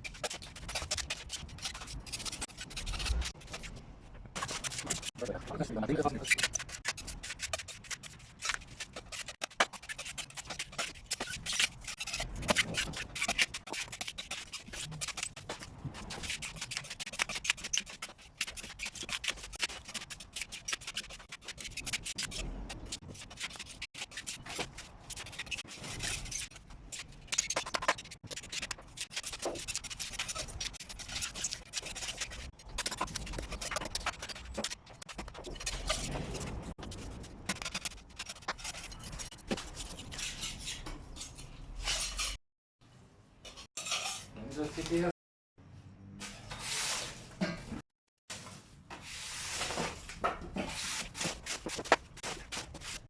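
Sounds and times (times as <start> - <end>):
hand scraping and rubbing: 0.0 - 41.2, 48.3 - 53.0.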